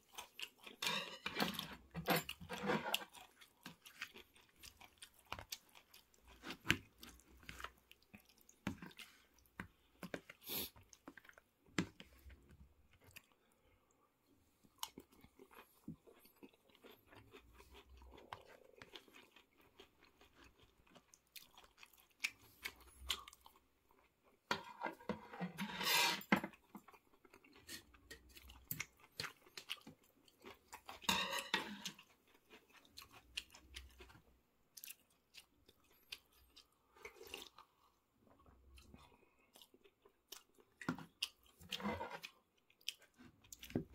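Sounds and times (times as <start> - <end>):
chewing and crunching: 0.0 - 43.9.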